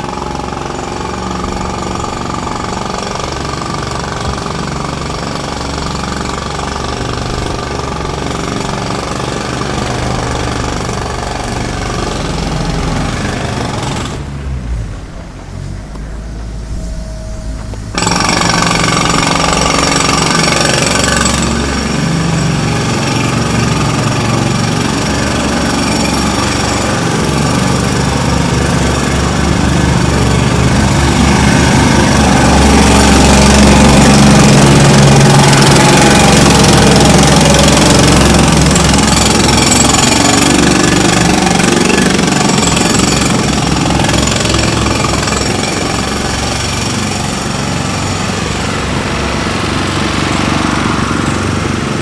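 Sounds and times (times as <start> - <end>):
jackhammer hammering road: 0.0 - 52.0.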